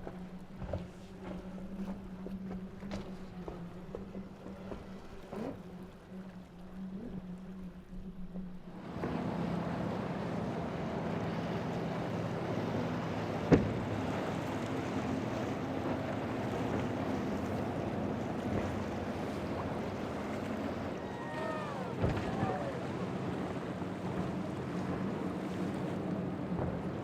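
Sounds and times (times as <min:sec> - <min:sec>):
boat motor running: 0:00.0 - 0:27.0
waves: 0:00.0 - 0:27.0.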